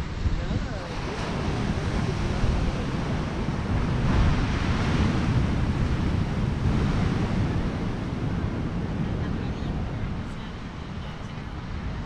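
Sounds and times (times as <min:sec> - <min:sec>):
sea surf washing on beach: 0:00.0 - 0:12.0
wind rumbling on microphone: 0:00.0 - 0:12.0.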